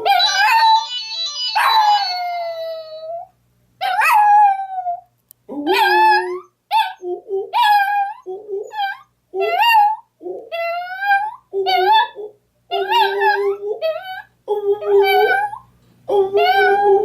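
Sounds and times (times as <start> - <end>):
dog howling: 0.0 - 5.0, 5.6 - 17.0.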